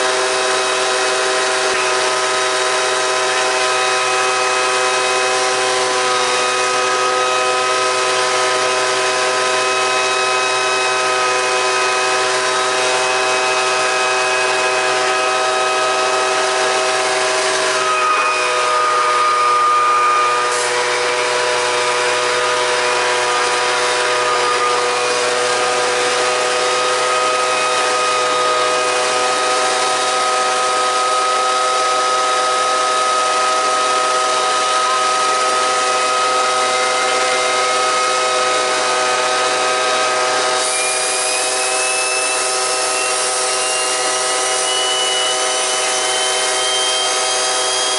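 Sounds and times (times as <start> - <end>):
gas turbine whine: 0.0 - 47.9.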